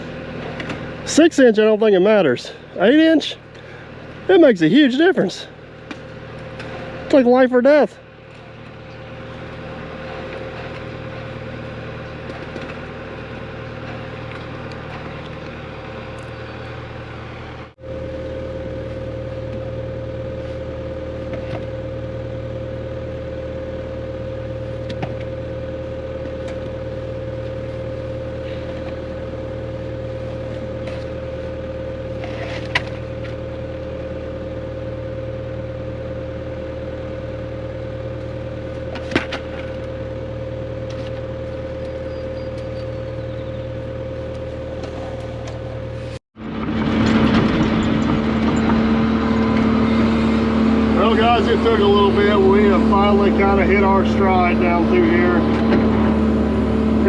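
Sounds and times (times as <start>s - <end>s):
diesel engine running under load: 0.0s - 57.0s
high-pitched hum: 0.0s - 57.0s.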